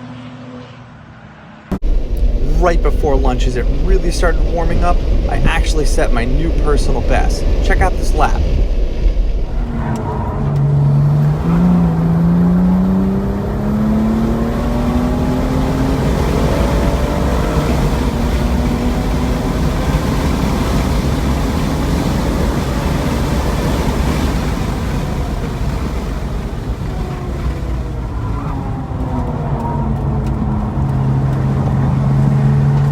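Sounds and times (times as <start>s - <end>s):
car engine pulling hard: 0.0s - 32.9s
wind and tyre noise: 0.0s - 32.9s.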